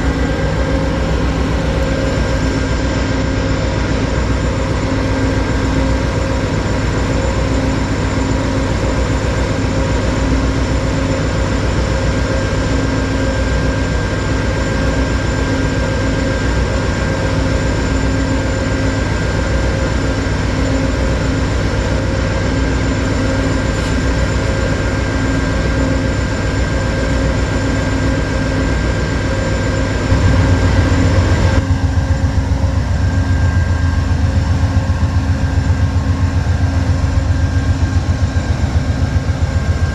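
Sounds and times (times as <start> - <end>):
diesel locomotive humming: 0.0 - 39.9.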